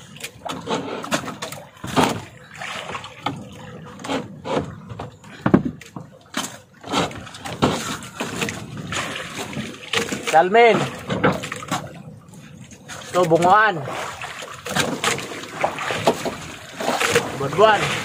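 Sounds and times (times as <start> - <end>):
wet fish handling noises: 0.0 - 18.0.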